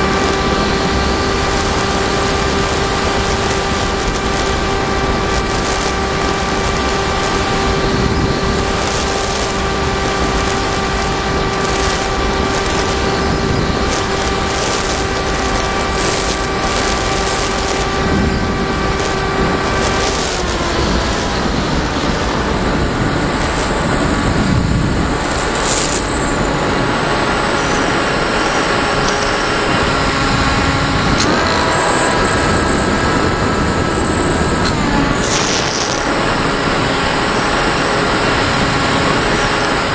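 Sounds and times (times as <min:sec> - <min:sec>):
propeller motor running: 0:00.0 - 0:39.9.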